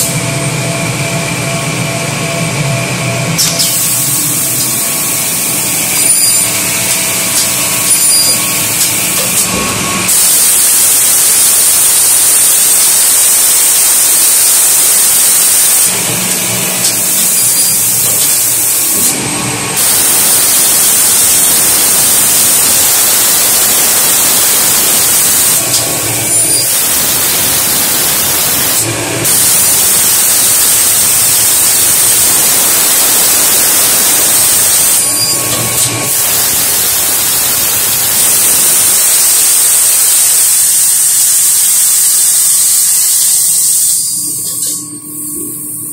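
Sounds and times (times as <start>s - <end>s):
machine rushing noise: 0.0s - 39.5s
cutter motors hissing and whining: 3.6s - 44.7s.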